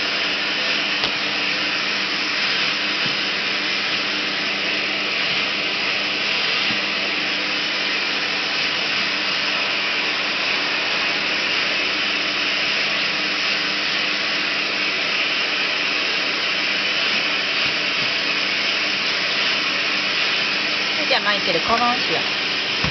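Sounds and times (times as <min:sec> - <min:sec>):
vacuum cleaner running: 0:00.0 - 0:22.9.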